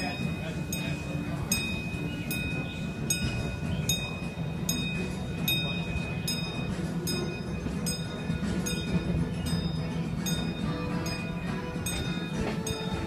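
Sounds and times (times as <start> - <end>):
bell ringing: 0.0 - 13.0
train cars rumbling on track: 0.0 - 13.0.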